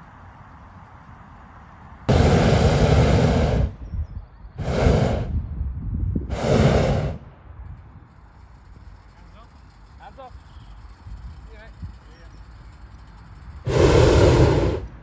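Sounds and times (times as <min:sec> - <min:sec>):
propane burner blasts: 0:01.2 - 0:15.0.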